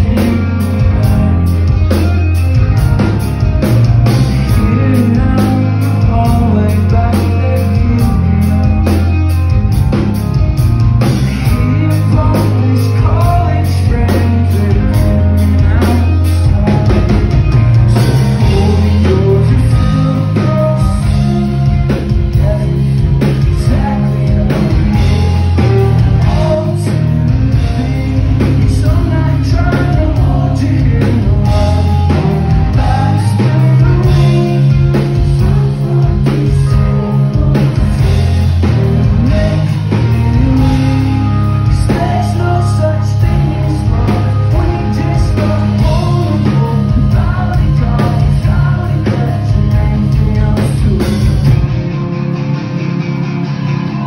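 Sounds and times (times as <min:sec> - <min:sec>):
sung vocals: 0:00.0 - 0:10.0, 0:11.0 - 0:51.8
drum kit beating: 0:00.0 - 0:52.1
electric guitars: 0:00.0 - 0:54.0.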